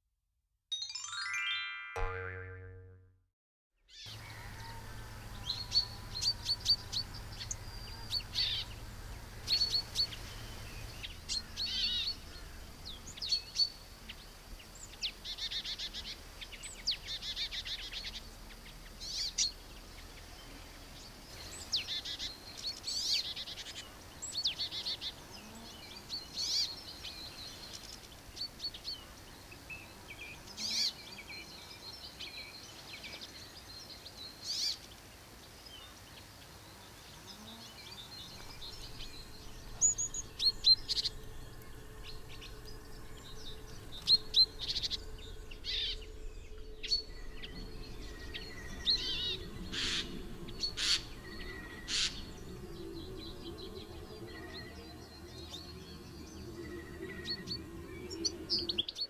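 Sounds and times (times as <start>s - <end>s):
faint outdoor background: 0.7s - 59.0s
songbirds chirping and singing: 4.0s - 59.0s.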